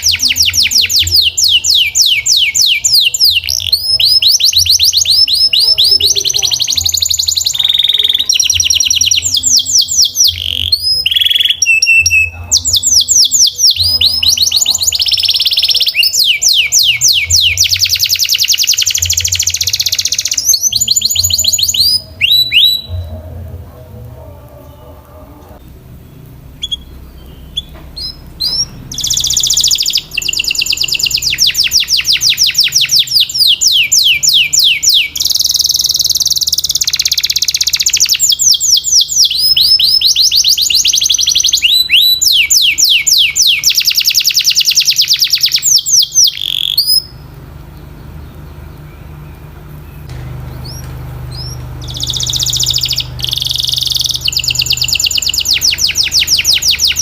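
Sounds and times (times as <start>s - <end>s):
low steady hum: 0.0s - 37.2s, 46.2s - 57.0s
canary singing: 0.0s - 57.0s.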